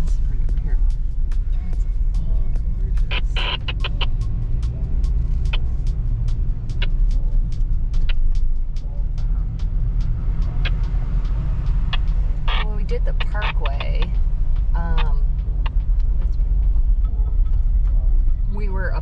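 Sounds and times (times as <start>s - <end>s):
engine and drivetrain rumble: 0.0s - 19.0s.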